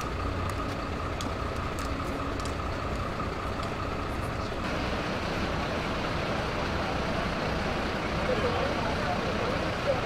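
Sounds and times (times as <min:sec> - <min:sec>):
fire engine idling: 0:00.0 - 0:10.0
thin steady whine: 0:00.0 - 0:10.0.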